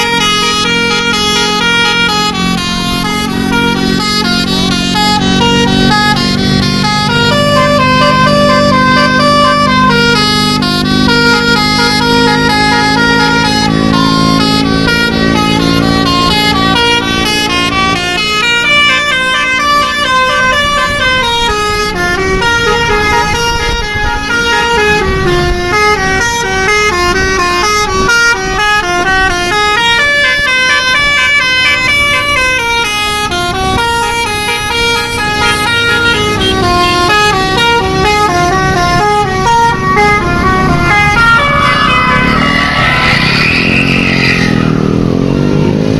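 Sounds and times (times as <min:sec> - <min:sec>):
multi-trumpet bus horn melody: 0:00.0 - 0:45.9.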